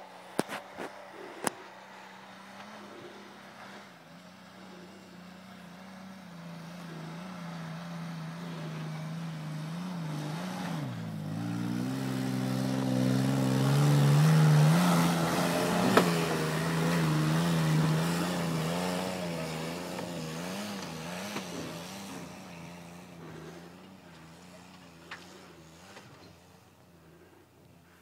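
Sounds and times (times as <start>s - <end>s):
engine pulling hard uphill: 0.0s - 28.0s.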